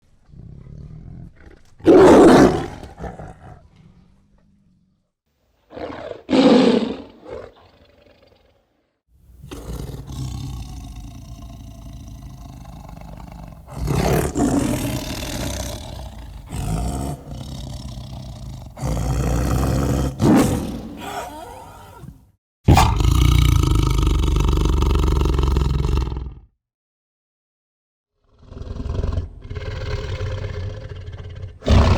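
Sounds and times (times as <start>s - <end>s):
tiger low growl: 0.1s - 5.1s, 5.7s - 26.5s, 28.3s - 31.9s
tiger roaring: 0.2s - 4.7s, 5.7s - 8.6s, 9.3s - 26.4s, 28.4s - 31.9s.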